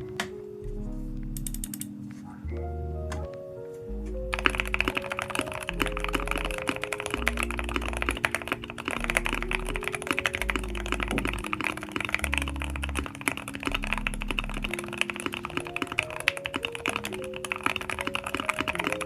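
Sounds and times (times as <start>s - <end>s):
mechanical keyboard typing: 1.4s - 2.0s, 4.3s - 19.0s.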